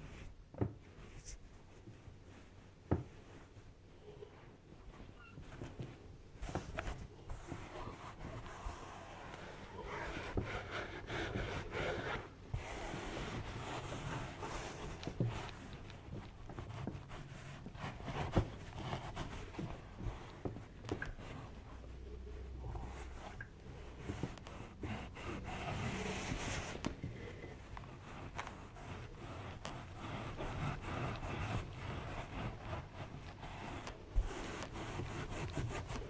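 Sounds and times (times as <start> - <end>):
close rubbing and rustling: 0.0 - 36.0.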